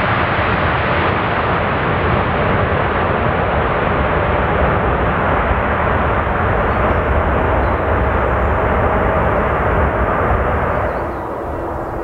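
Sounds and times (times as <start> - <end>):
jet engines at takeoff power: 0.0 - 12.0.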